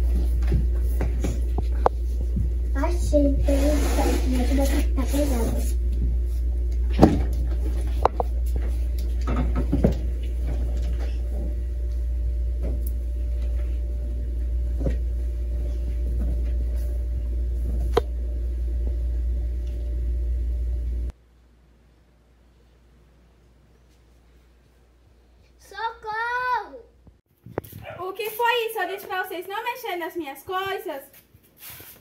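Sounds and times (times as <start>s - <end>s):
steady low hum: 0.0s - 25.8s.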